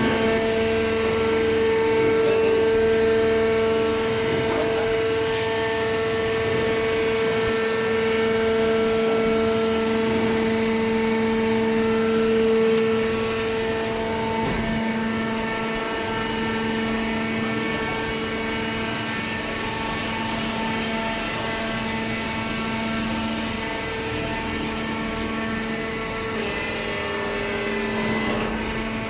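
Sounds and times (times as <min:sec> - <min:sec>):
hydraulic baler machine hum: 0:00.0 - 0:29.0.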